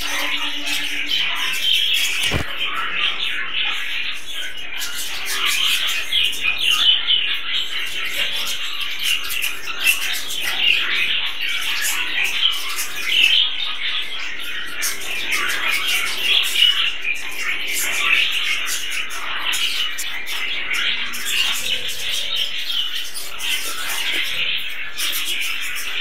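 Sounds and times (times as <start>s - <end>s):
budgerigars chirping and warbling: 0.0s - 26.0s.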